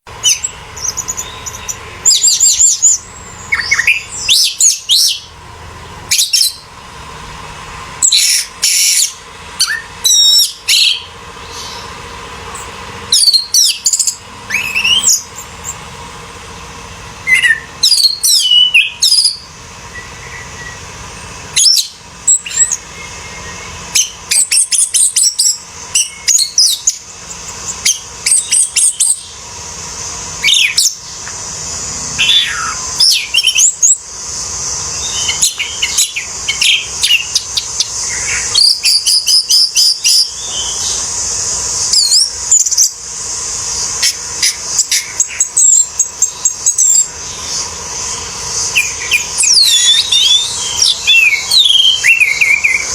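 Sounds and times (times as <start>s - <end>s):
faint steady hum: 0.0s - 52.9s
thrush singing: 0.0s - 52.9s.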